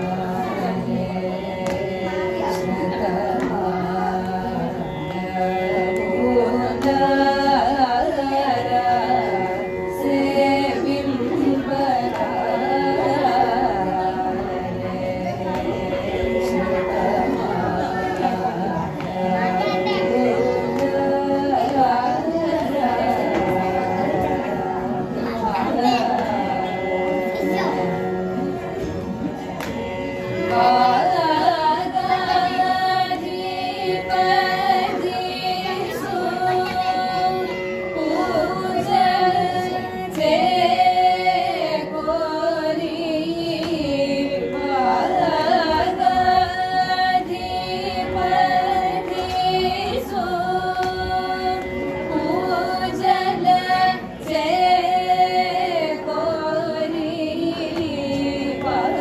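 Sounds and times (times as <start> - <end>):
steady drone: 0.0 - 59.0
women singing in unison: 0.0 - 59.0.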